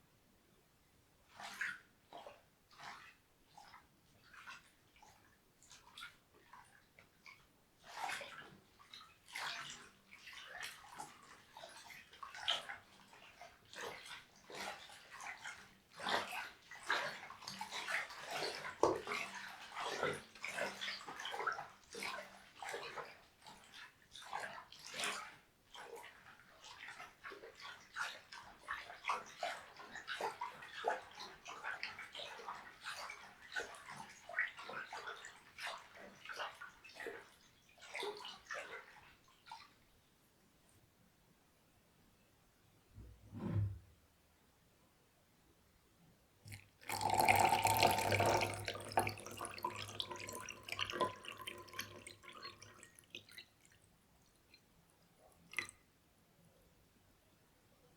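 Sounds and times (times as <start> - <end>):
water splashing and sloshing: 1.2 - 40.0, 46.5 - 55.8.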